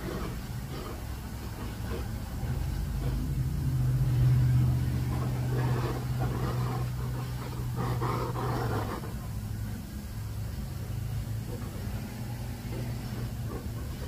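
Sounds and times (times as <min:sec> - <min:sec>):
low hum with rumble: 0:00.0 - 0:14.0
propane torch flame hissing: 0:00.0 - 0:14.0.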